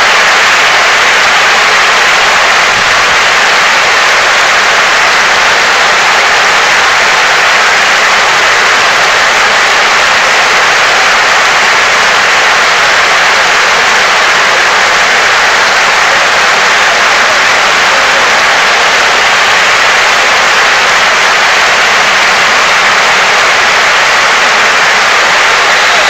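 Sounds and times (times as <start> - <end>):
crowd applauding: 0.0 - 26.0.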